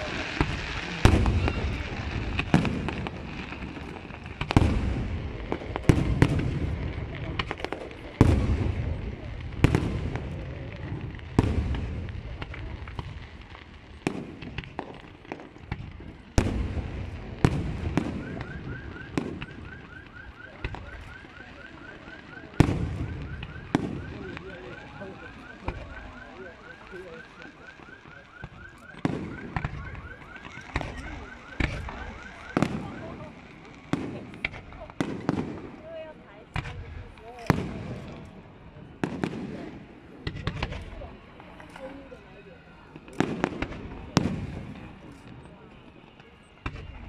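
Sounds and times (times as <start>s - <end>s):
fireworks bursting with bangs: 0.0s - 47.0s.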